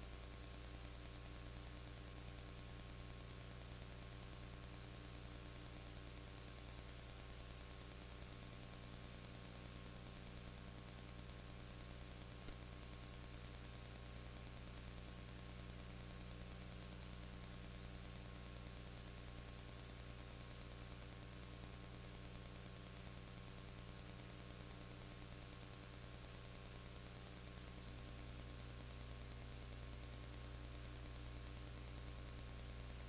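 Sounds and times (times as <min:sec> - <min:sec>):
low electrical hum: 0:00.0 - 0:33.0
tape hiss: 0:00.0 - 0:33.0.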